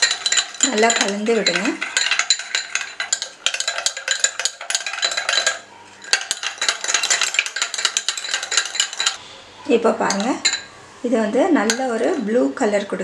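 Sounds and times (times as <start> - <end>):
spoon stirring and clinking in bowl: 0.0 - 9.2, 10.0 - 10.8, 11.5 - 13.0.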